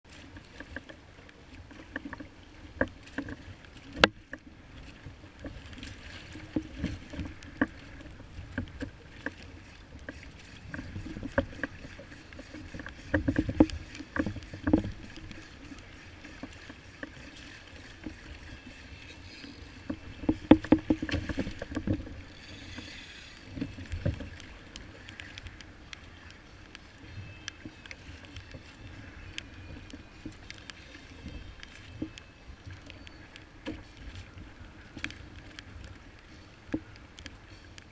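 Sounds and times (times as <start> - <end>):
water slapping against kayak hull: 1.6 - 37.4.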